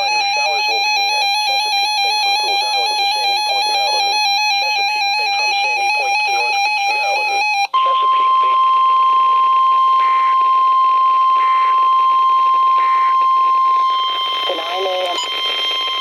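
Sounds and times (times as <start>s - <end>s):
steady single-pitch warning tone: 0.0s - 16.0s
warbling electronic alarm: 0.0s - 16.0s.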